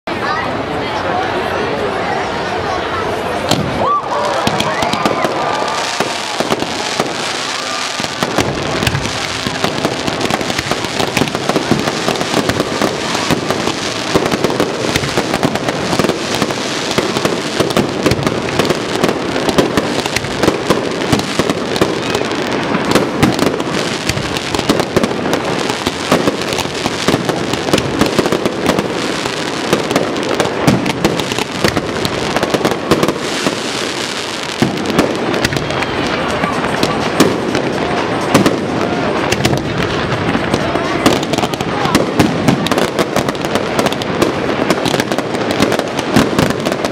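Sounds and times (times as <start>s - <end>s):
crackling sparks: 3.5s - 46.9s
fireworks pops and bangs: 3.5s - 46.9s.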